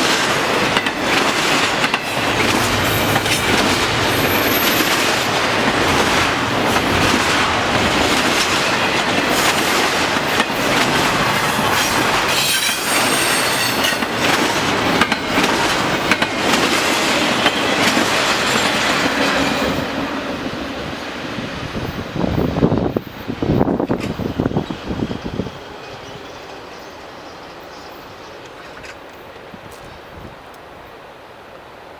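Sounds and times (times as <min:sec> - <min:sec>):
train wheels clattering on rails: 0:00.0 - 0:20.8, 0:21.8 - 0:26.6.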